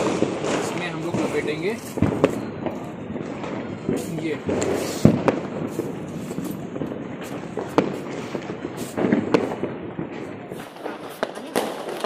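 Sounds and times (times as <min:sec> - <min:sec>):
firecrackers banging: 0:00.0 - 0:12.0
firecrackers crackling and popping: 0:00.0 - 0:12.0.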